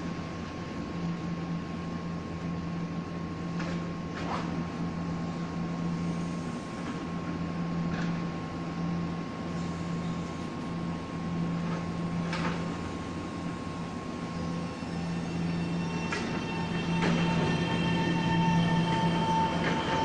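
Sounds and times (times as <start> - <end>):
train equipment humming: 0.0 - 20.0.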